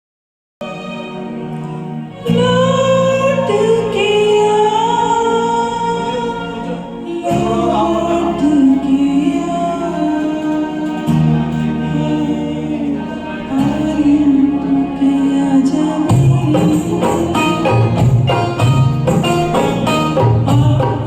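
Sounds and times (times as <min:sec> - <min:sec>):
karaoke backing music: 0:00.6 - 0:21.0.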